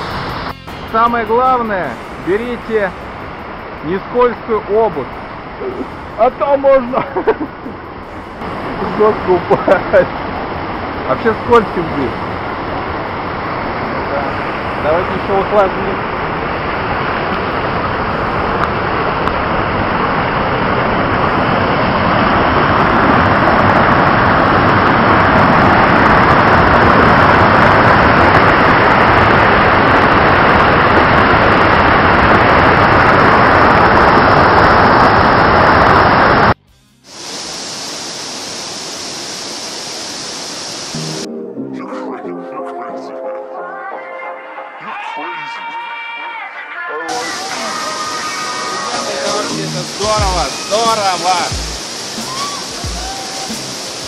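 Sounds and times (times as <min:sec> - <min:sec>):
hissy rushing noise: 0:00.0 - 0:41.3, 0:47.0 - 0:54.0
waterfall roaring: 0:00.0 - 0:41.3, 0:47.1 - 0:54.0.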